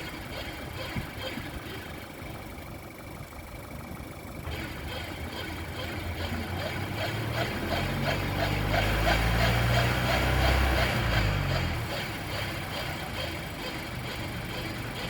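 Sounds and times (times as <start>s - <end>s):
car drivetrain hum: 0.0s - 15.0s
pulsing transmission noise: 0.0s - 15.0s.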